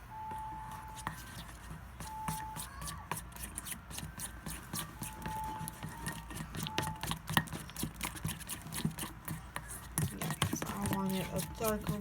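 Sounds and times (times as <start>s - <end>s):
utensil stirring glue: 0.4s - 12.0s.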